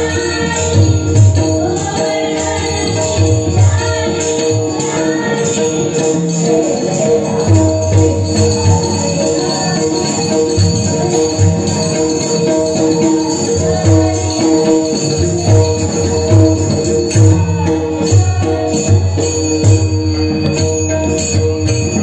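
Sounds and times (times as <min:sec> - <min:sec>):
hand cymbals jingling: 0:00.0 - 0:22.0.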